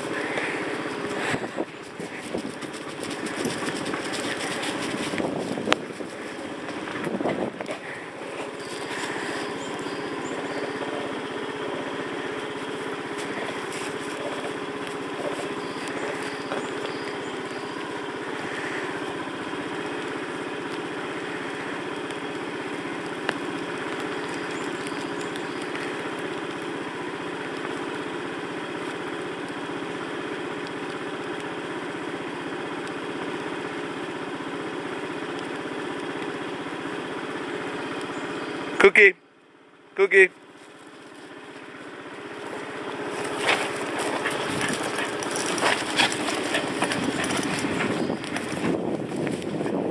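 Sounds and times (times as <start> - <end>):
motorbike engine idling: 0.0 - 49.9.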